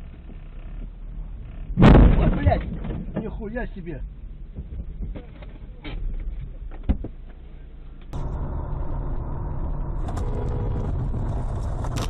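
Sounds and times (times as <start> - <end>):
car driving rumble from cabin: 0.0 - 12.0.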